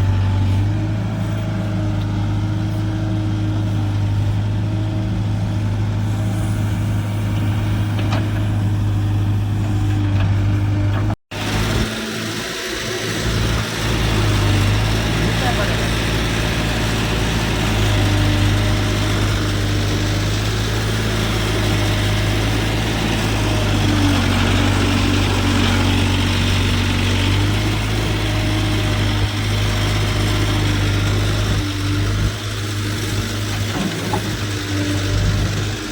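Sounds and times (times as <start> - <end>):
diesel engine idling: 0.0 - 33.7.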